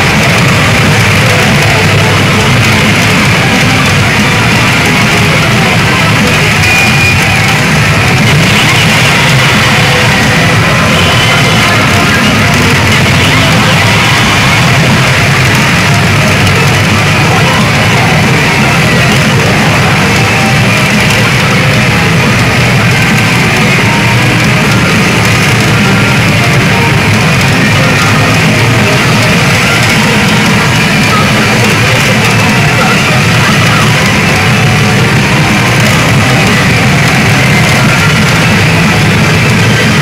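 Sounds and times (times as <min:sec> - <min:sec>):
rock music with guitar: 0:00.0 - 0:40.0.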